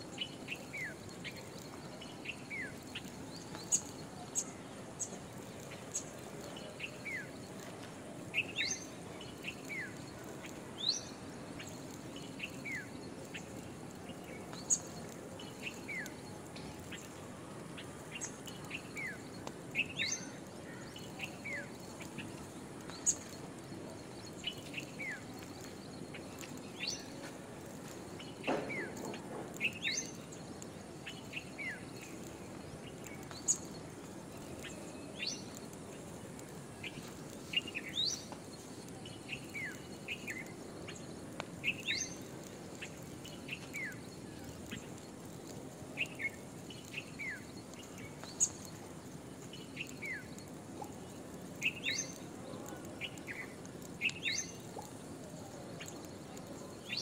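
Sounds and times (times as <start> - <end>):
faint outdoor background: 0.0 - 57.0
small birds chirping: 0.0 - 57.0.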